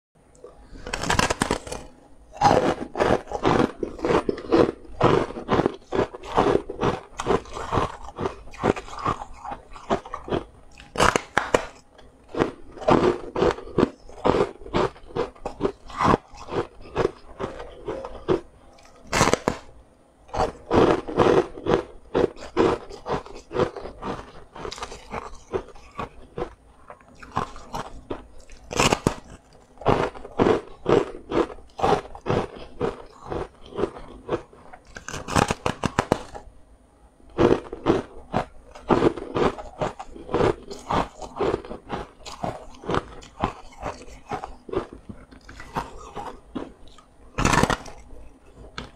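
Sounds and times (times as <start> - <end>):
crunching crispy snack: 0.7 - 19.7, 20.3 - 36.5, 37.3 - 48.9
snack snapping on bites: 0.8 - 11.8, 12.4 - 19.7, 20.3 - 36.4, 37.4 - 48.1.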